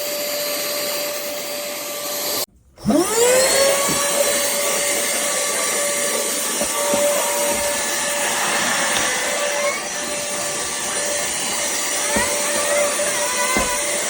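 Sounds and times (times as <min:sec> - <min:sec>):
handheld vacuum running: 0:00.0 - 0:14.0.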